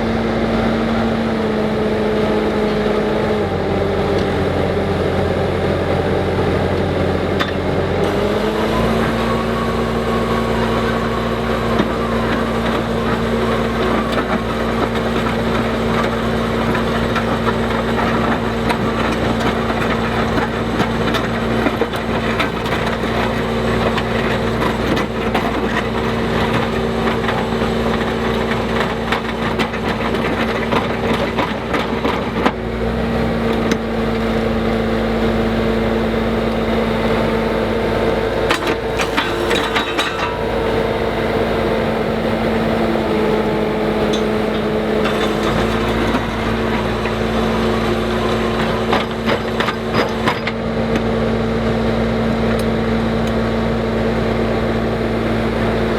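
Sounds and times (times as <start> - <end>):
skid steer engine running: 0.0 - 55.9.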